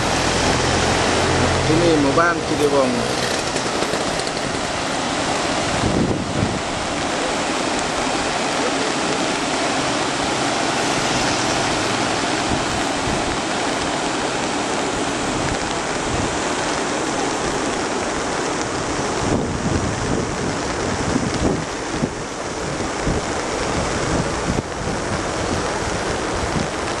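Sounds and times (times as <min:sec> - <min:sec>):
river rushing over rapids: 0:00.0 - 0:27.0
wind buffeting microphone: 0:03.0 - 0:08.3, 0:09.4 - 0:27.0.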